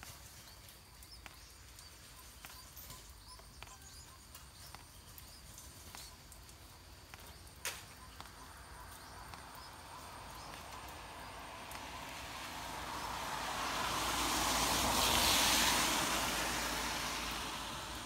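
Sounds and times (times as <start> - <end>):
raindrops tapping on leaves: 0.0 - 18.0.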